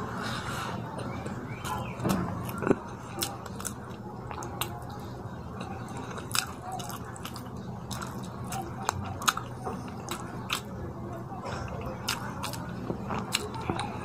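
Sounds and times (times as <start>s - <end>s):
steady low hum: 0.0s - 14.0s
wet chewing and lip-smacking: 1.0s - 14.0s.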